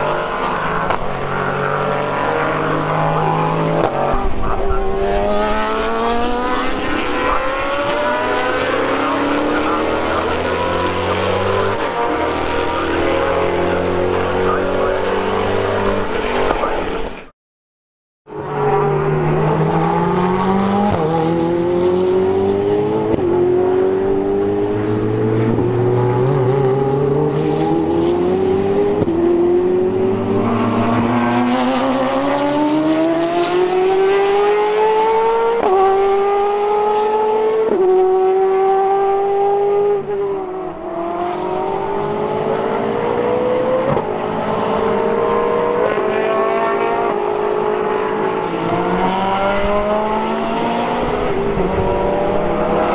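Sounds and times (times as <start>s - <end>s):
race car engines accelerating: 0.0s - 17.2s, 18.3s - 52.9s.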